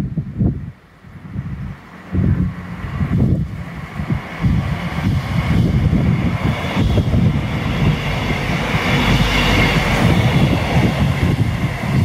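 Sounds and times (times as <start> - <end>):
train wheels rumbling on rails: 0.0 - 12.0
train rushing past: 0.4 - 12.0.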